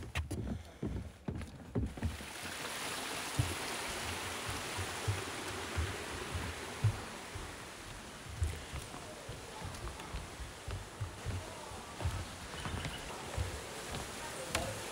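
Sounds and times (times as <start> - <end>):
footsteps on wooden boardwalk: 0.0 - 14.9
water rushing over rocks: 1.9 - 14.9.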